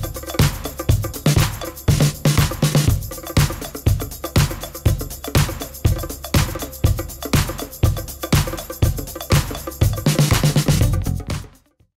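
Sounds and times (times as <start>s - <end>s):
upbeat music with drum beat: 0.0s - 11.9s.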